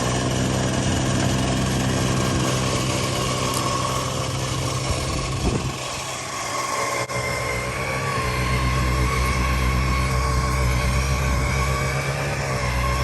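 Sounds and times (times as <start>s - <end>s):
electric snowblower running: 0.0s - 13.0s.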